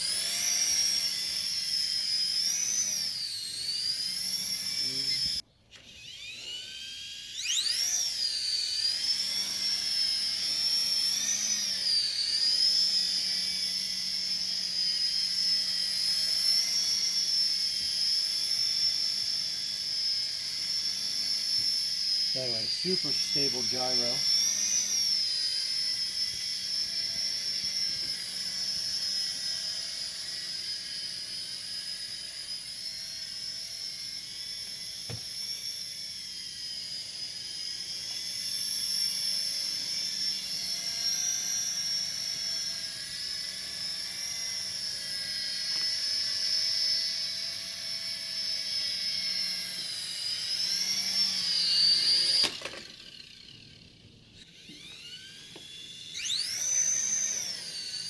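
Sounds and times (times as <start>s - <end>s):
toy helicopter motors whining: 0.0s - 58.0s.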